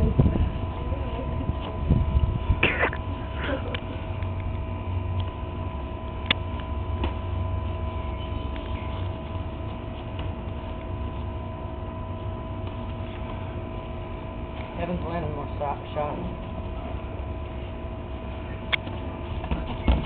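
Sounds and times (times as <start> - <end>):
low rumble: 0.0 - 19.2
electrical hum with thin tones: 0.0 - 20.0.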